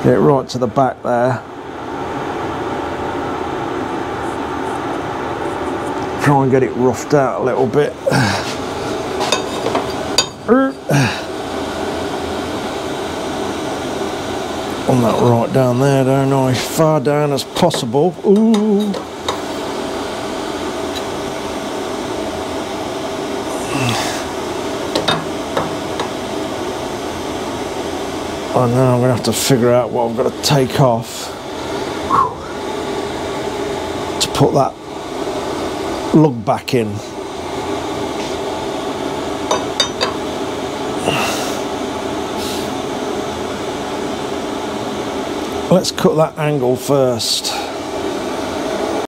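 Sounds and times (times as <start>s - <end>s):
mechanical hum with faint whine: 0.0s - 49.0s.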